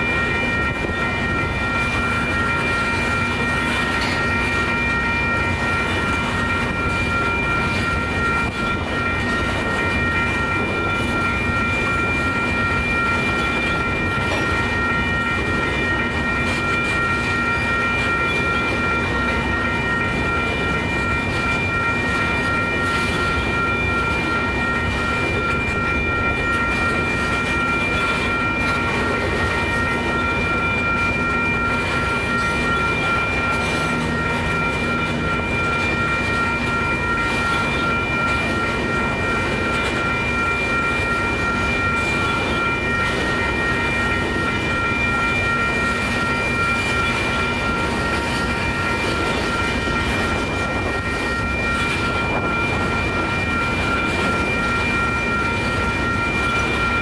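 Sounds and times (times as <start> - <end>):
freight train wheels rumbling: 0.0 - 57.0
high-pitched ringing tones: 0.0 - 57.0.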